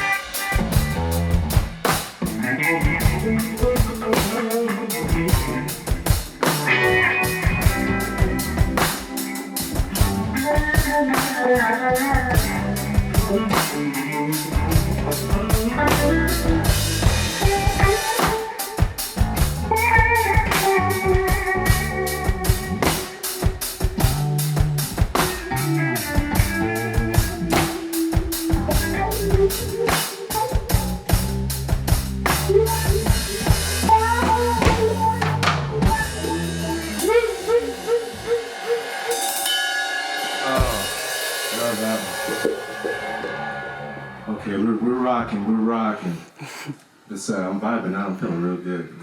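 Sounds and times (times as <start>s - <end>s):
drum kit beat: 0.0s - 44.0s
live band playing instrumental: 0.0s - 44.3s.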